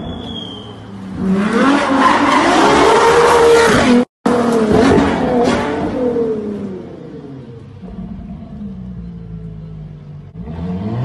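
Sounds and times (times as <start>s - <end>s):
car engine revving: 1.0s - 11.0s.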